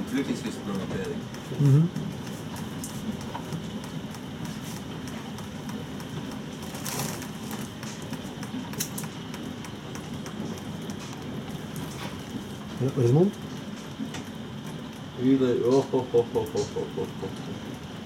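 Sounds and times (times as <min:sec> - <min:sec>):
drops ticking on hard surfaces: 0:00.0 - 0:18.0
steady rain: 0:00.0 - 0:18.0.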